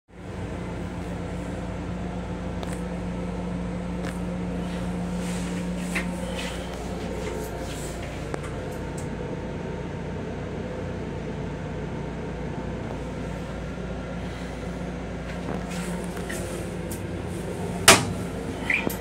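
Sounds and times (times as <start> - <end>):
railcar running hum: 0.1 - 19.0
steady low tone: 0.1 - 19.0.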